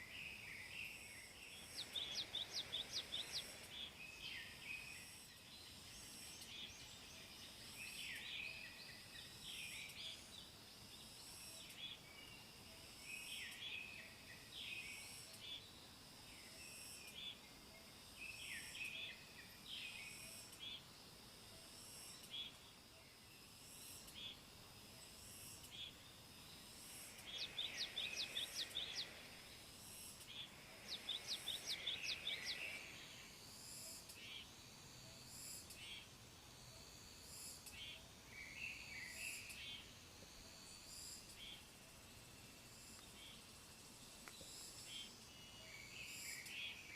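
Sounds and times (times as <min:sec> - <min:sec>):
small birds chirping: 0:00.0 - 0:20.9, 0:21.6 - 0:34.6, 0:37.5 - 0:46.9
pulsing insect drone: 0:00.0 - 0:46.9.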